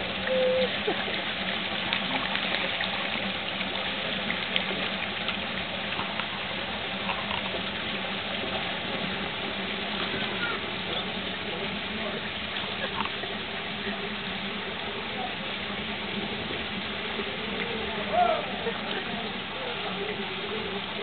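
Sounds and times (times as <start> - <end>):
running splashing water: 0.0 - 21.0.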